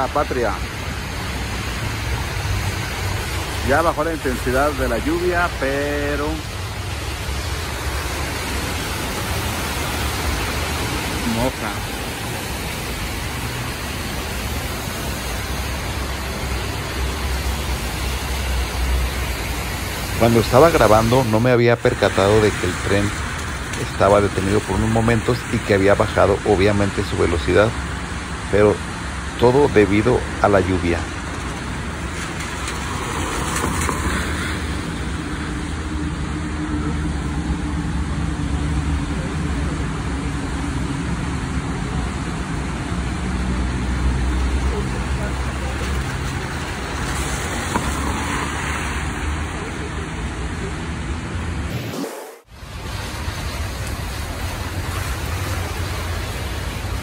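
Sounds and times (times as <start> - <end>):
car tyres swishing on wet street: 0.0 - 57.0
low traffic rumble: 0.0 - 57.0
rain hissing: 0.0 - 57.0.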